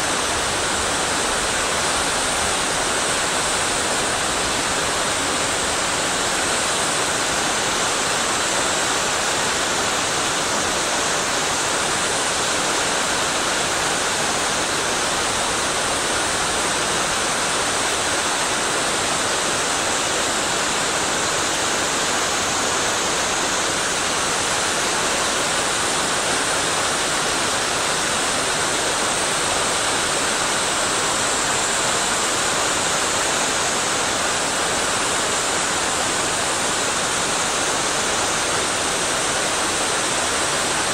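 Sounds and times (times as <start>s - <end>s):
fast-flowing stream water: 0.0s - 40.9s.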